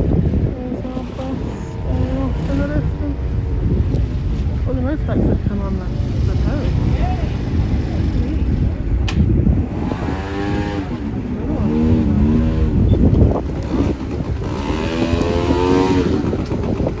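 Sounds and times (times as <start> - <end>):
indistinct voices: 0.0 - 13.8
vehicle engine and road rumble: 0.0 - 17.0.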